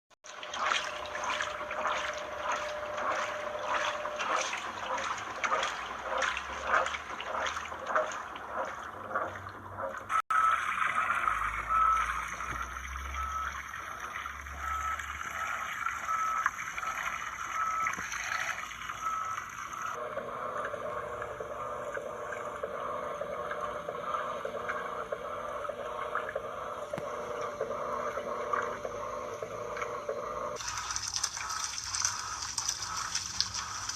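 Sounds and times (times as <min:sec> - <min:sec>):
washing machine sloshing water: 0:00.2 - 0:33.9
faint machine whine: 0:00.3 - 0:33.9.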